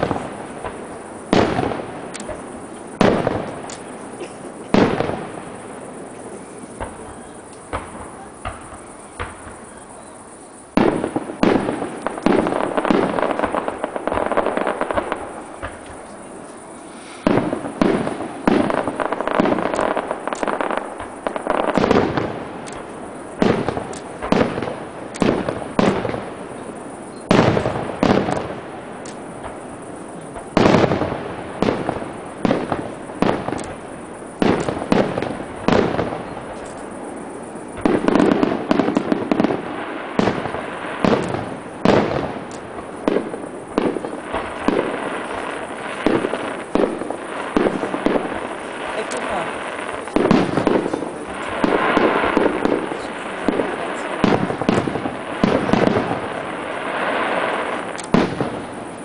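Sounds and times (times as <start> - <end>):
firework shells bursting: 0.0 - 59.0.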